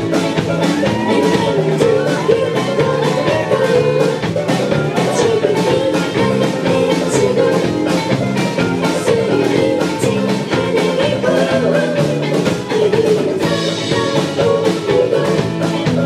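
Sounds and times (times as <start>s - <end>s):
live band with guitar and drums: 0.0s - 16.0s.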